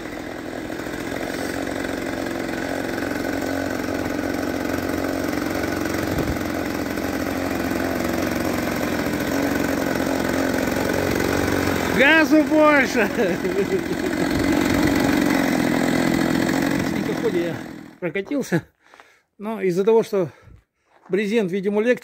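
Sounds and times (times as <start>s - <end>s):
two-stroke engine running: 0.0s - 18.1s.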